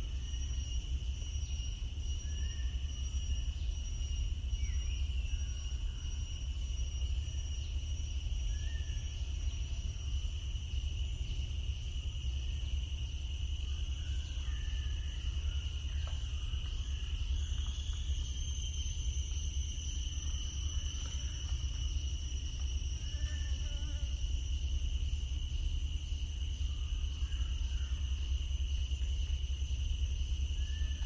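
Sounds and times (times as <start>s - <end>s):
high insect drone: 0.0s - 31.0s.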